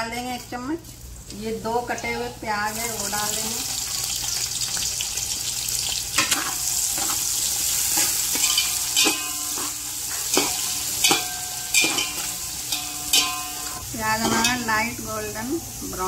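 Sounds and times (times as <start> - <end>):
onions sizzling in hot oil: 0.5 - 16.0.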